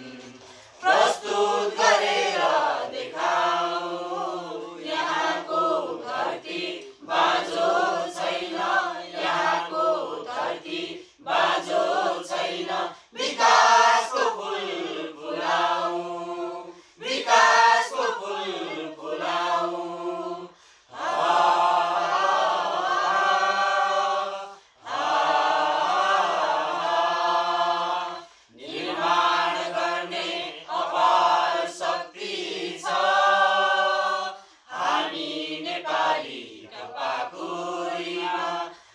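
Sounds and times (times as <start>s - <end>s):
group of people singing: 0.0s - 38.9s.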